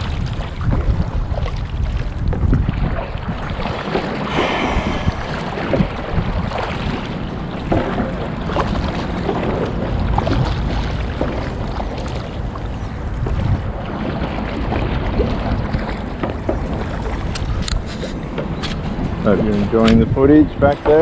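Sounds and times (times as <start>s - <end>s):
paddle splashing in water: 0.0s - 20.0s
wind on microphone: 0.0s - 21.0s.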